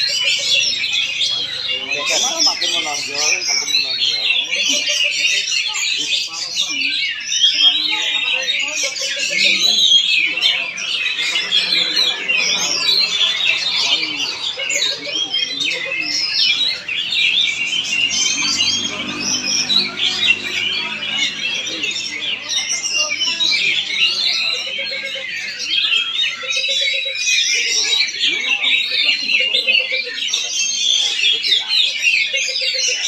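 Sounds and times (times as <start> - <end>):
bird singing: 0.0 - 33.0.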